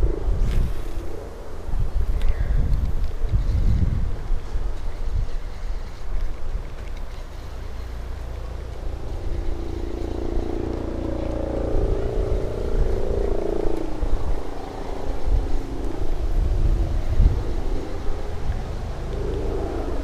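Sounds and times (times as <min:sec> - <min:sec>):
distant engine drone: 0:00.0 - 0:20.0
wind rumbling on microphone: 0:00.0 - 0:20.0.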